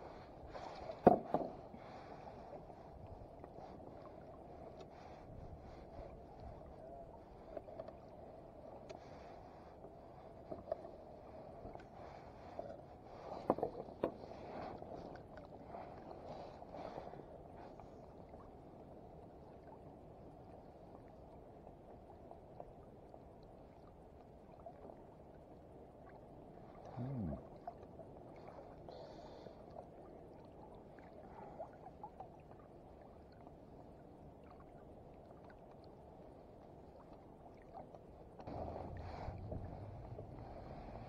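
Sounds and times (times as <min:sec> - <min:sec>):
water lapping against kayak: 0:00.0 - 0:41.0.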